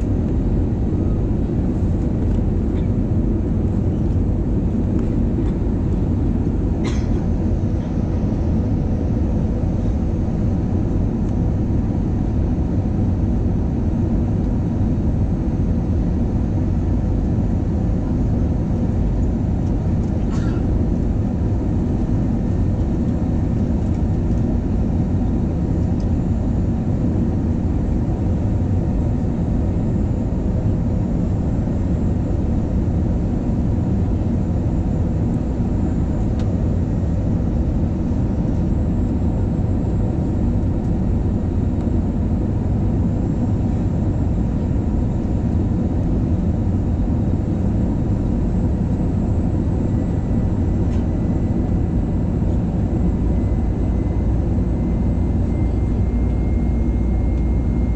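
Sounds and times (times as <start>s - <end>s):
airliner cabin engine rush: 0.0s - 57.9s.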